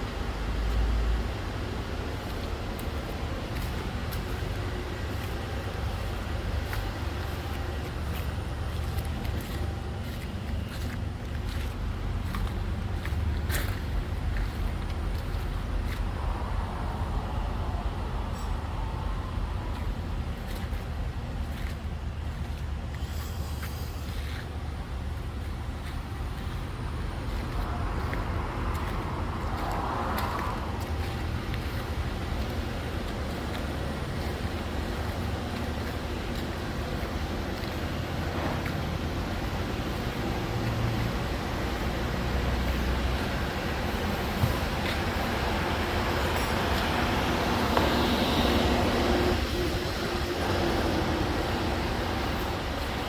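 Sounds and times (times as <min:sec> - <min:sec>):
motor vehicle rumbling: 0:00.0 - 0:53.0
road and wind hiss: 0:00.0 - 0:53.0.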